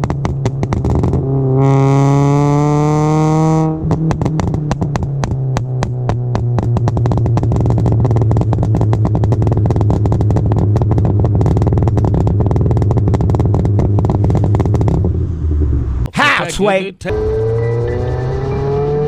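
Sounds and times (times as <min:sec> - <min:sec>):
car exhaust crackling and popping: 0:00.0 - 0:16.1.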